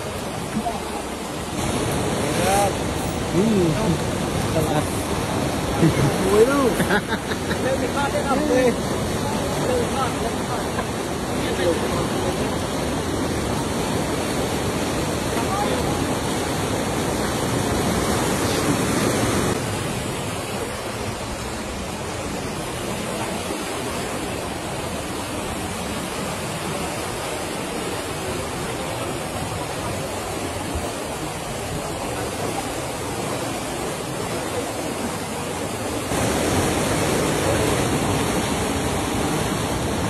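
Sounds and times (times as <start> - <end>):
fast-flowing river water: 0.0 - 40.0.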